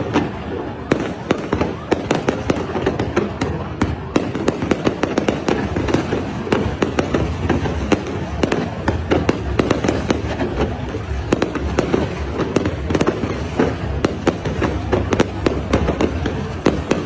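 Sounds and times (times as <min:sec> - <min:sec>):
firework bangs and crackles: 0:00.0 - 0:17.0.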